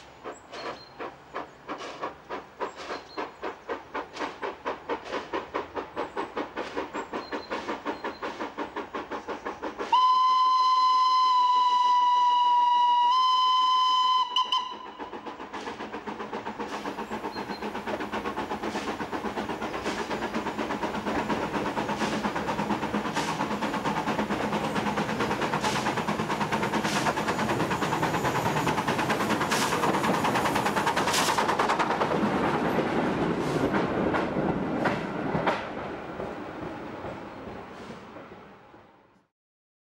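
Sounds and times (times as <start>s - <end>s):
rail clatter: 0.0s - 10.2s, 14.0s - 38.4s
steam locomotive chuffing: 0.0s - 38.4s.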